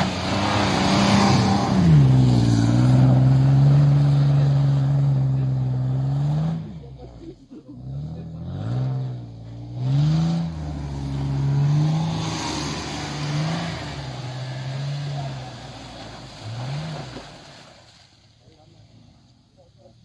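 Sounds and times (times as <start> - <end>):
engine revving hard: 0.0 - 7.0, 7.8 - 17.4.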